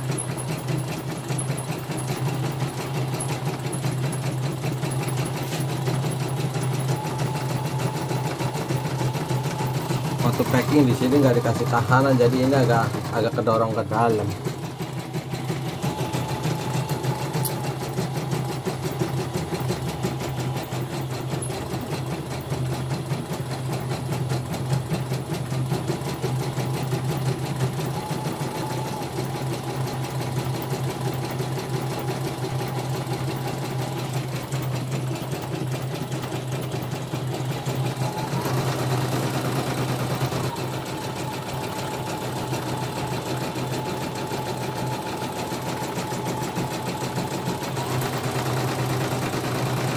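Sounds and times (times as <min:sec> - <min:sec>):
embroidery machine needle hammering: 0:00.0 - 0:49.9.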